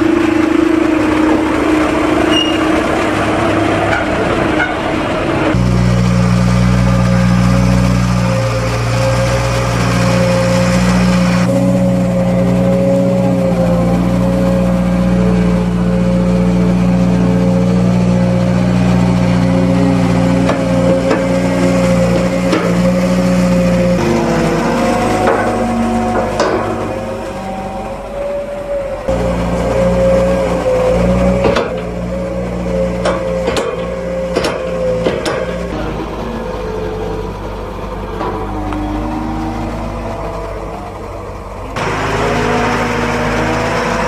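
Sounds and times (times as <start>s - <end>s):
diesel engine whining under load: 0.0s - 44.0s.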